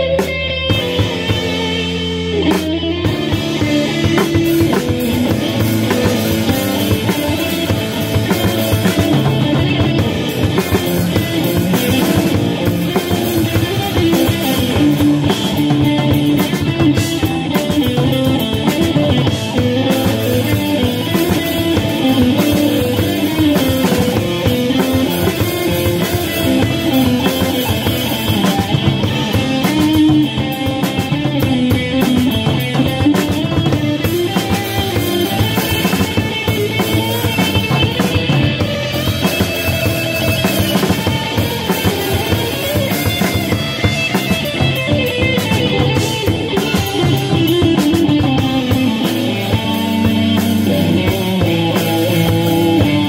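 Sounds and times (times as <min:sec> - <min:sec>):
bass guitar: 0:00.0 - 0:53.0
distorted electric guitar chords: 0:00.0 - 0:53.0
drum kit beat: 0:00.0 - 0:53.0.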